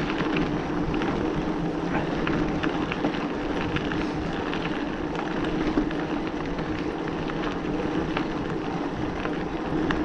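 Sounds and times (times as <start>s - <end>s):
bike rattling and clicking: 0.0s - 10.0s
tyre rumble: 0.0s - 10.0s.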